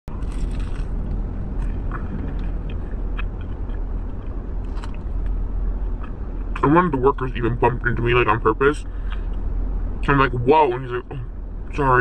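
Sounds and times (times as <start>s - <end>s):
car low rumble: 0.0s - 12.0s.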